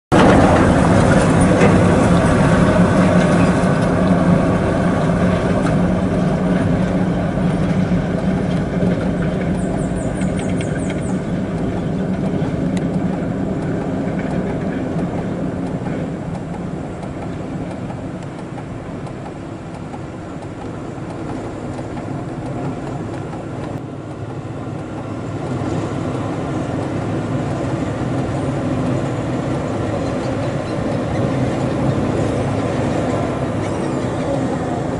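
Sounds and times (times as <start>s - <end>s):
diesel truck engine drone: 0.1s - 34.9s.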